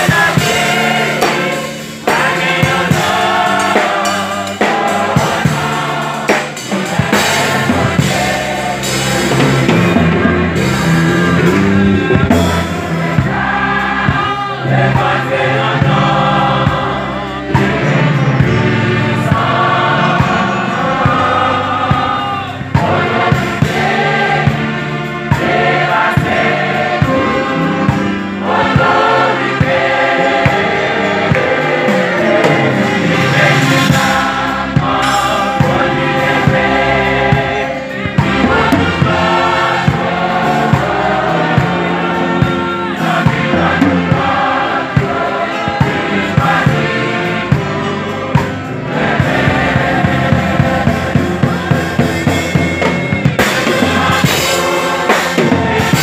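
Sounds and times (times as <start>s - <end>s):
band with steady drum beat: 0.0s - 56.0s
choir singing: 0.0s - 56.0s.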